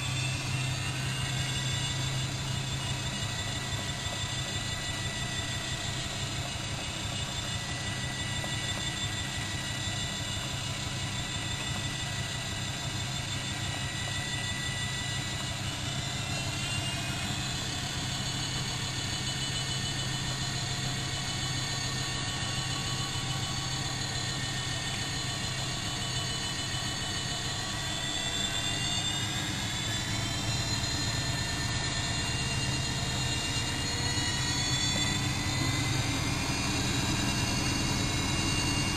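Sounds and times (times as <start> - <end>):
washing machine motor whine: 0.0 - 38.9.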